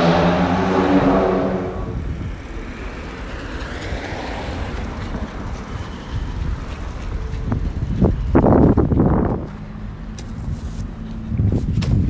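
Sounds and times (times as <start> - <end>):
passing vehicle traffic rumble: 0.0 - 12.0
wind buffeting microphone: 0.0 - 12.0.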